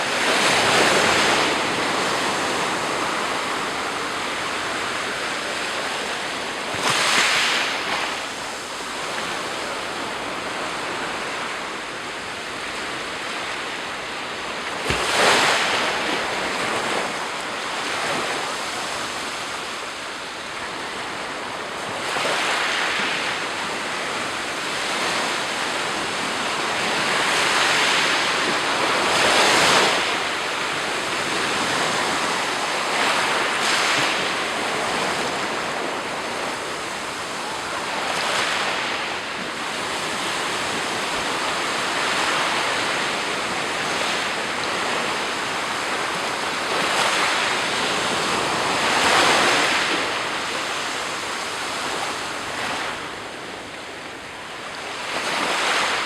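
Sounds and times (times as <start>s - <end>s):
steady wash of water: 0.0s - 56.0s
wave breaking on shore: 0.0s - 56.0s.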